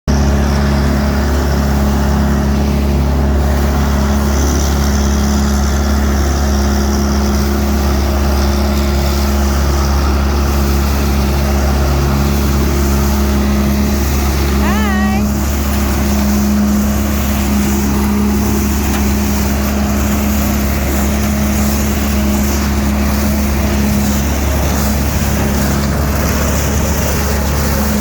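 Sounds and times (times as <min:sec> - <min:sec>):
leaf vacuum engine drone: 0:00.0 - 0:28.0.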